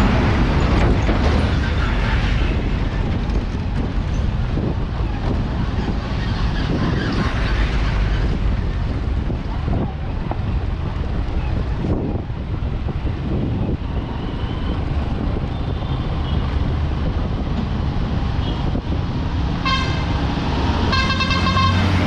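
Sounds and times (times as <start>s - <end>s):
road vehicle rumble: 0.0s - 22.0s
wind buffeting microphone: 0.0s - 22.0s.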